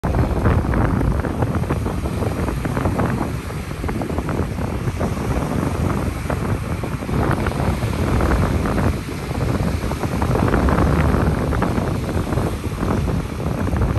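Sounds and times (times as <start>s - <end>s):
surf rushing onto beach: 0.0s - 13.9s
wind rumble on microphone: 0.0s - 13.9s.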